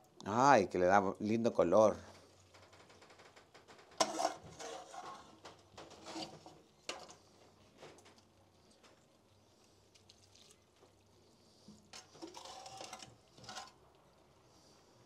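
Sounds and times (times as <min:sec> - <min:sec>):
faint splashing and scraping: 0:01.7 - 0:15.0.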